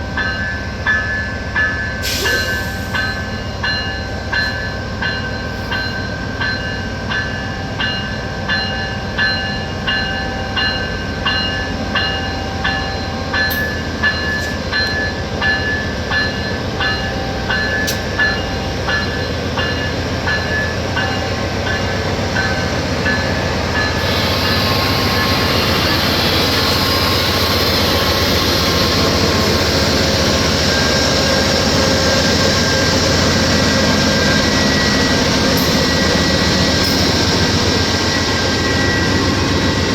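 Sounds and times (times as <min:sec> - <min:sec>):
diesel locomotive engine: 0:00.0 - 0:39.9
locomotive bell ringing: 0:00.0 - 0:39.9
train passing: 0:00.0 - 0:39.9.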